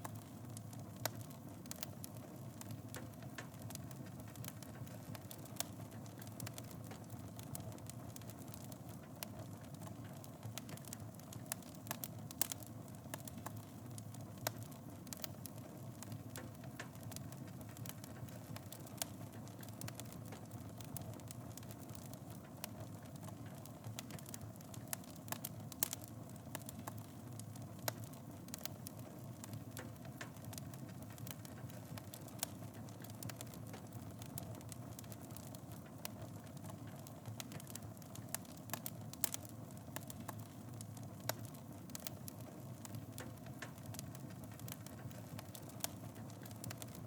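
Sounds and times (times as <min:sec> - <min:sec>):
fire crackles and pops: 0:00.0 - 0:47.0
fire rumbling in fireplace: 0:00.0 - 0:47.0.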